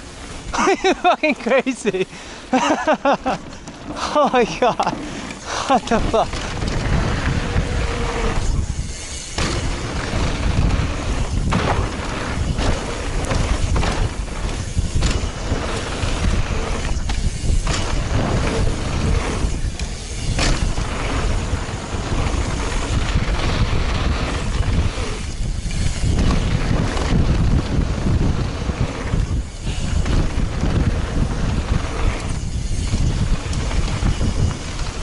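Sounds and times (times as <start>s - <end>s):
tyres rumbling on dirt: 0.0s - 35.0s
bike clattering over bumps: 2.5s - 35.0s
wind rushing over microphone: 3.9s - 35.0s.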